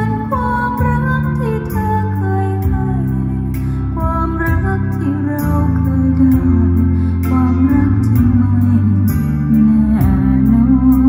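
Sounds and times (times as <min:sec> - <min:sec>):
bass notes under melody: 0:00.0 - 0:11.0.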